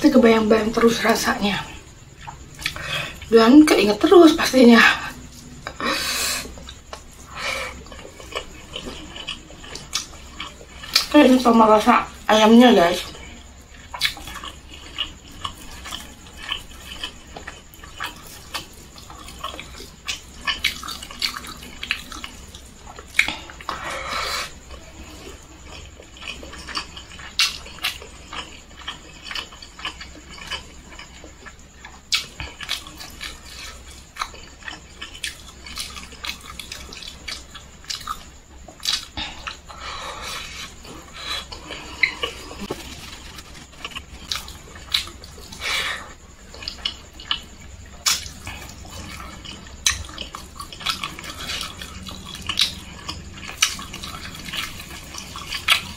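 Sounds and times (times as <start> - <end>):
wet chewing and mouth smacking: 1.0 - 3.3, 5.0 - 11.2, 13.1 - 55.9.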